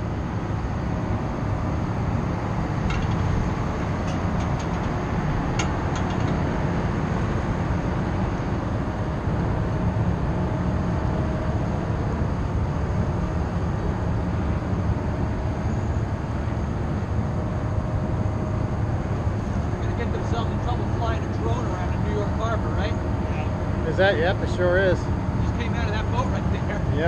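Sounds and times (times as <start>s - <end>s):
boat engine rumble: 0.0s - 27.0s.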